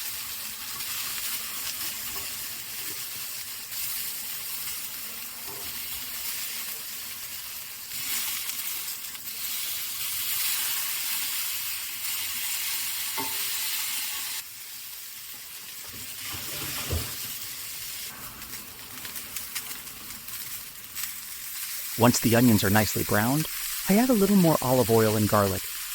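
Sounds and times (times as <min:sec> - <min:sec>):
food sizzling in a frying pan: 0:00.0 - 0:25.9.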